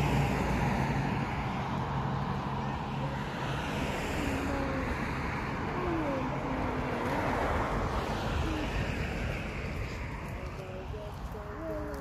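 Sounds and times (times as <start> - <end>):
distant traffic: 0.0 - 12.0.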